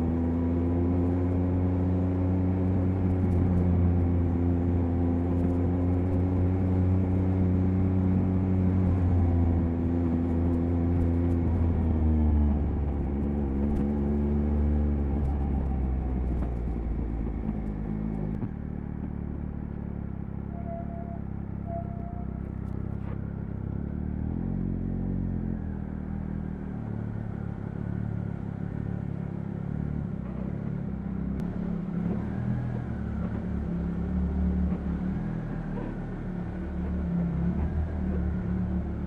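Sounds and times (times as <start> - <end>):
motorcycle engine running: 2.3 - 39.0.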